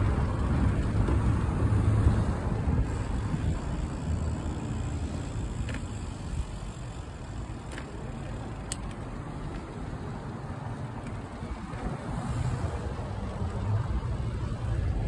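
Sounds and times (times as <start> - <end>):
outdoor street rumble: 0.0 - 15.0.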